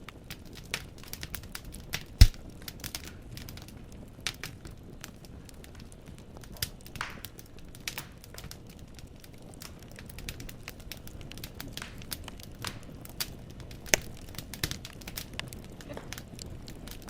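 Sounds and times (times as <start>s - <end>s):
crackles and pops of burning logs: 0.0s - 17.0s
low rumble of fire: 0.0s - 17.0s.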